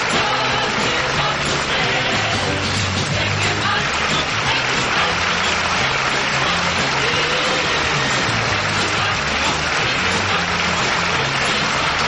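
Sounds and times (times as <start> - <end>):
audience applauding: 0.0 - 12.0
show music with bass line: 0.0 - 12.0.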